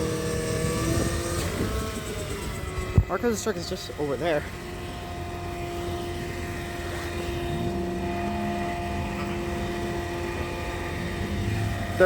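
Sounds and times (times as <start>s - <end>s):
diesel engine rumble and whine: 0.0s - 12.0s
low engine tone: 0.0s - 12.0s.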